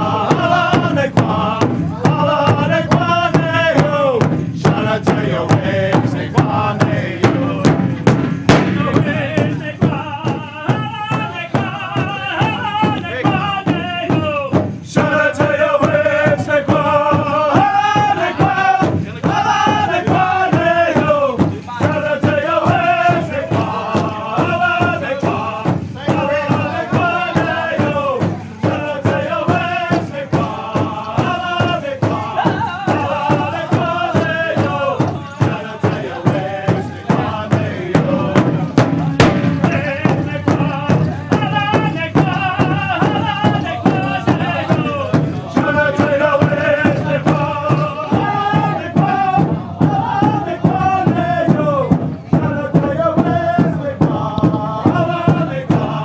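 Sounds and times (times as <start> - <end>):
group of voices singing: 0.0 - 56.0
steady drumbeat: 0.0 - 56.0.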